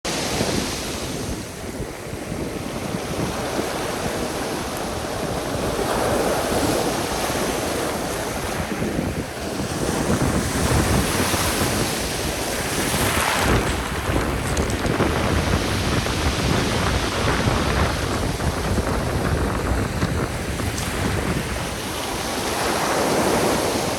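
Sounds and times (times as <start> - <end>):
sea surf washing ashore: 0.1 - 23.9
wind buffeting microphone: 0.1 - 23.9.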